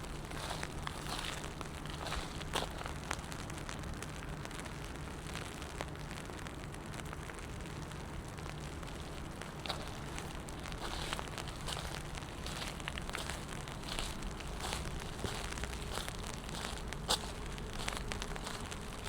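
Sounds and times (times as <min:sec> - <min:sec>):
rain on wet pavement: 0:00.0 - 0:19.0.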